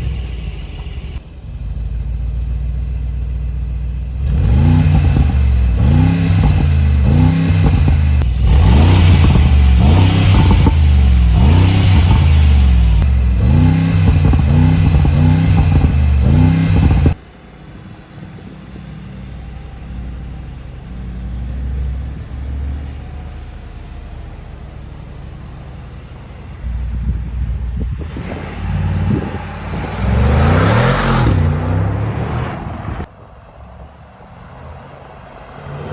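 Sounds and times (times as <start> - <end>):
car engine revving: 0.0 - 17.2, 19.2 - 33.2
car engine idling: 0.0 - 32.0.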